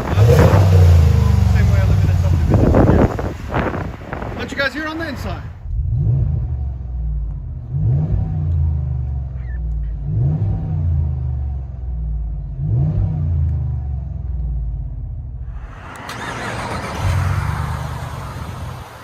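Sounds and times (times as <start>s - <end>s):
truck exhaust note: 0.0s - 4.4s, 5.2s - 19.0s.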